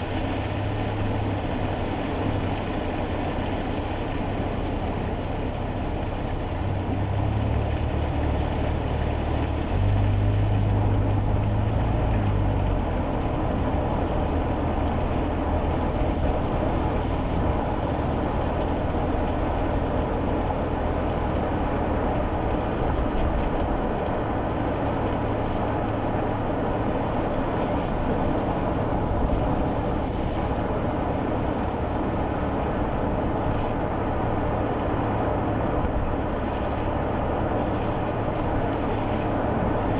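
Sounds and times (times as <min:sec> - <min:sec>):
car engine drone: 0:00.0 - 0:39.9
tyre and road noise: 0:00.0 - 0:39.9.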